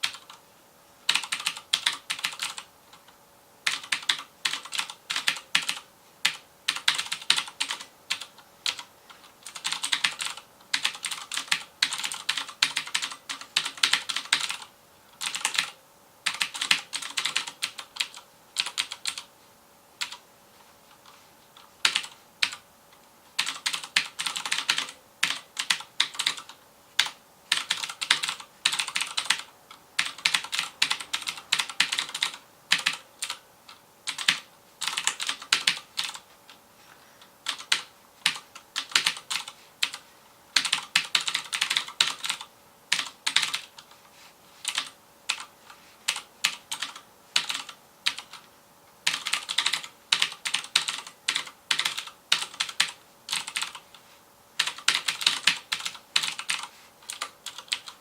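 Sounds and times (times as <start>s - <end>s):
clicky mechanical keyboard typing: 0.0s - 0.4s, 1.1s - 19.3s, 20.0s - 20.2s, 21.0s - 22.6s, 23.4s - 36.6s, 37.4s - 40.0s, 40.6s - 44.0s, 44.6s - 45.5s, 46.1s - 53.9s, 54.6s - 58.0s.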